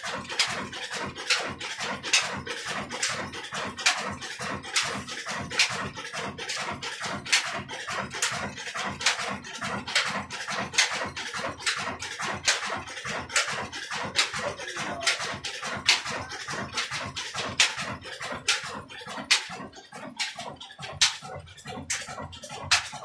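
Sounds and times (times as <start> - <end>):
diesel engine running: 0.0 - 23.0
flour mill sharp clack: 0.0 - 23.0.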